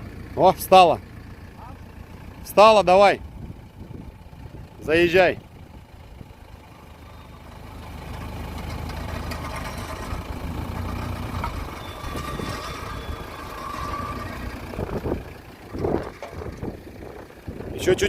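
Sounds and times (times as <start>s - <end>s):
suv engine at low revs: 0.0s - 18.0s.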